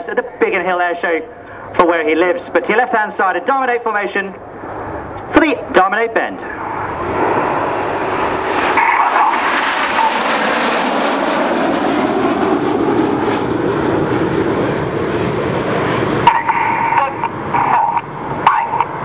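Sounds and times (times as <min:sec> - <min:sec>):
jets roaring overhead: 0:00.0 - 0:19.0.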